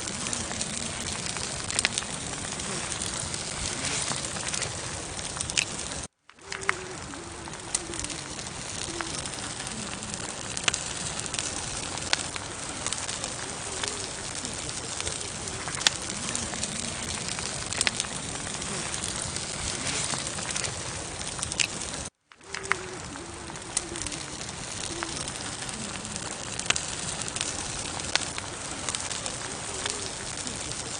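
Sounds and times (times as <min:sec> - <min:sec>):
campfire crackling and popping: 0:00.0 - 0:30.9
faint bird calls: 0:00.0 - 0:30.9.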